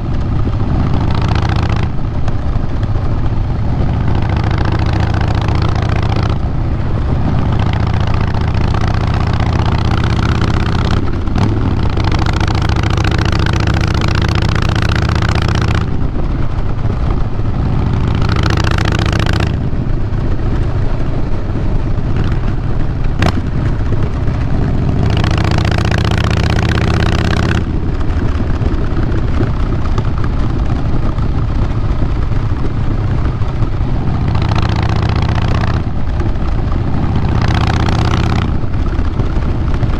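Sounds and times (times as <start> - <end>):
motorcycle engine low rumble: 0.0 - 39.9.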